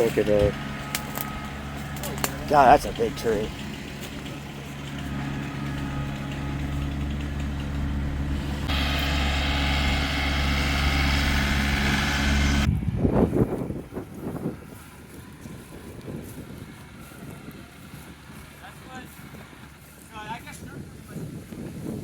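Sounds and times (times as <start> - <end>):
low rumbles: 0.0 - 22.0
vehicle engine running: 0.0 - 22.0.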